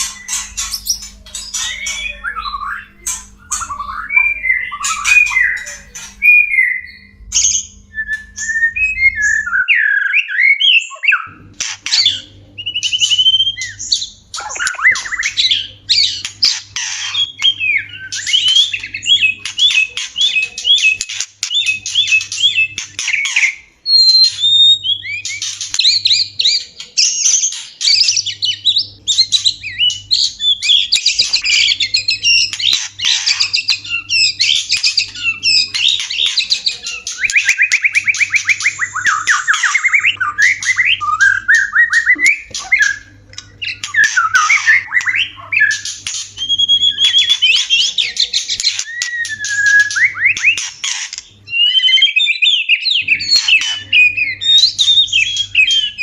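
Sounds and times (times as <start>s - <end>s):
repeated rising bird notes: 0.0s - 48.1s
birds whistling and chattering: 0.0s - 56.0s.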